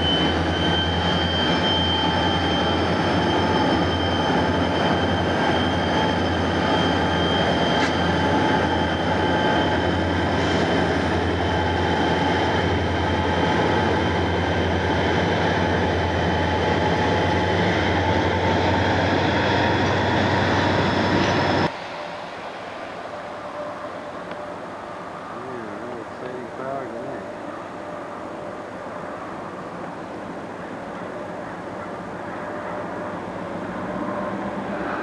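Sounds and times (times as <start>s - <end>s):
high-pitched whine: 0.0s - 29.9s
diesel locomotive engine rumble: 0.0s - 35.0s.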